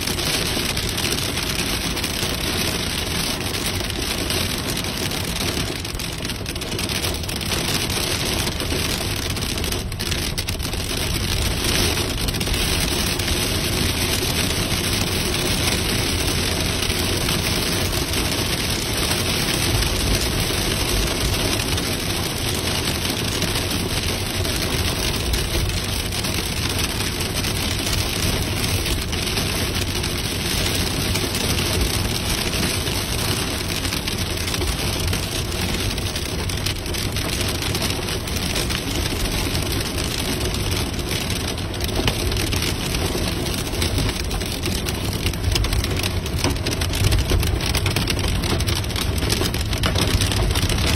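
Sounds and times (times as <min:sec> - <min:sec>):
car driving on wet road: 0:00.0 - 0:50.9
heavy rain on car roof: 0:00.0 - 0:50.9.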